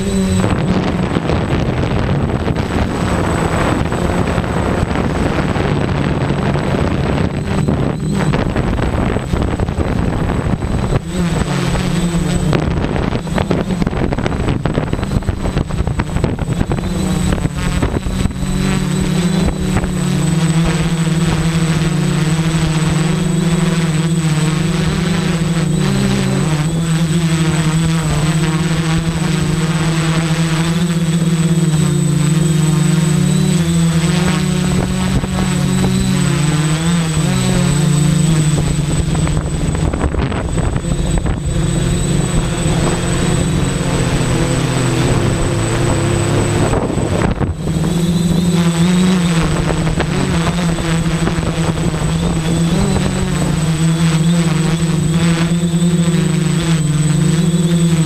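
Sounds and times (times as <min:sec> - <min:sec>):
quadcopter propellers buzzing: 0:00.0 - 0:58.0.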